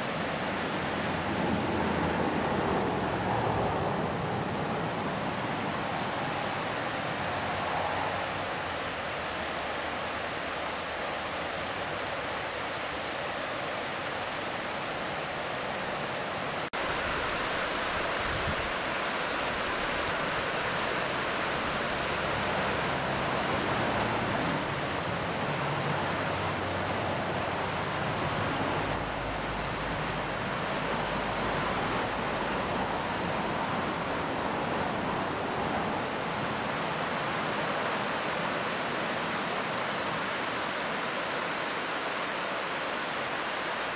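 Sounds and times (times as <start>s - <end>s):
water rushing and splashing: 0.0s - 43.9s.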